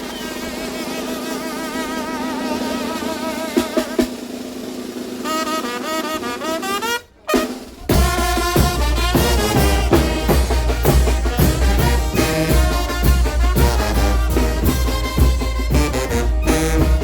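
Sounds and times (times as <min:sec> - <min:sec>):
brass band playing: 0:00.0 - 0:17.0
heavy drum beat: 0:00.0 - 0:17.0.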